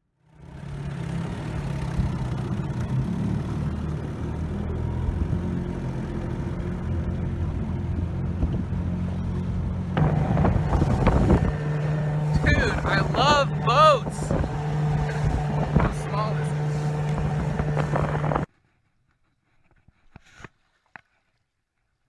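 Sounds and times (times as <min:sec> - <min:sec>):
outboard motor running: 0:00.1 - 0:18.5.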